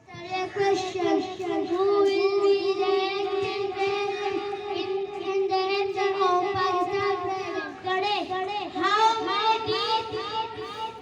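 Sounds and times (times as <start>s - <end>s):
young children singing: 0.0s - 11.0s.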